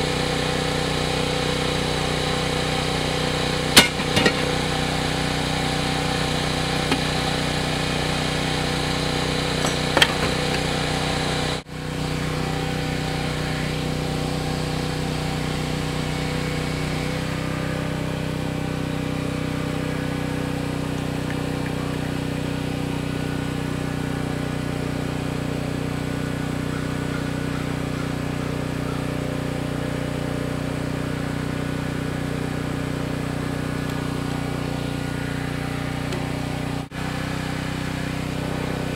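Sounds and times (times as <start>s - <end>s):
engine-like hum: 0.0s - 38.9s.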